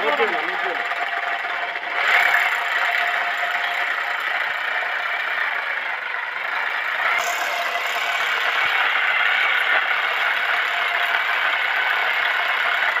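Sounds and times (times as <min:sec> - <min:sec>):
electric drill boring into wall: 0:00.8 - 0:13.0.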